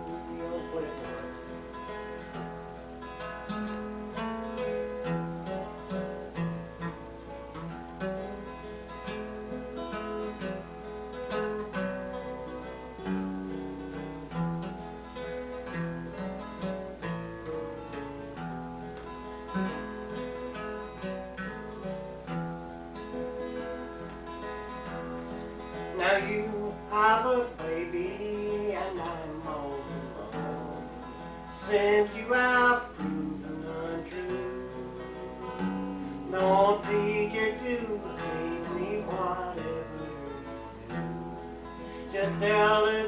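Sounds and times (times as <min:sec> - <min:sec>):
acoustic guitar playing: 0:00.0 - 0:43.0.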